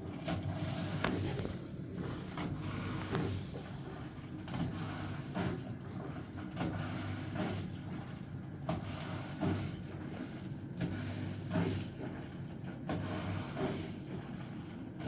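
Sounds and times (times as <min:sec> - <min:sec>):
drain pump humming: 0:00.0 - 0:15.0.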